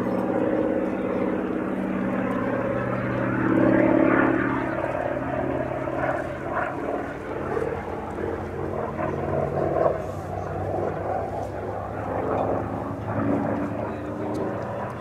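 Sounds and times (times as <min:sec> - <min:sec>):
propeller aircraft flying overhead: 0:00.0 - 0:15.0.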